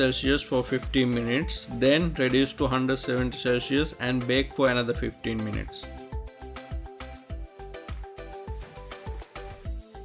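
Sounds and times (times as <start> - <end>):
plucked string tune with beat: 0.0 - 10.0.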